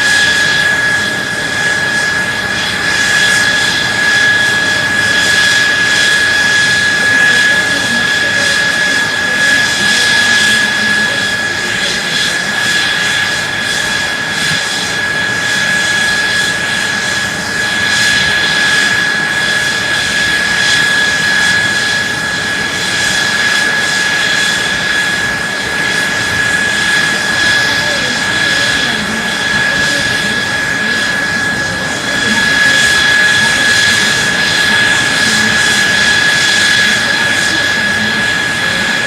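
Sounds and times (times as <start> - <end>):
jet engine rushing: 0.0 - 39.0
jet engine whine: 0.0 - 39.0.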